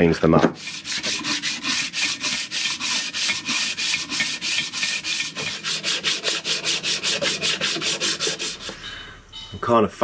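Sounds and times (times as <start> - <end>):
sharpening stone rasping on metal: 0.6 - 8.9.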